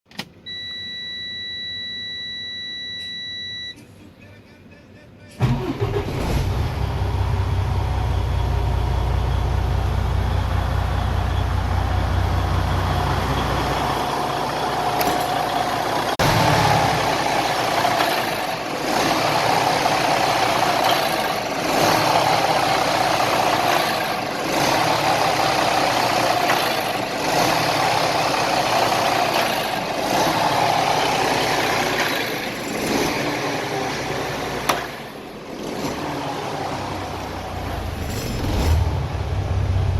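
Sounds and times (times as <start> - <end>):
diesel truck engine running: 5.4 - 39.9.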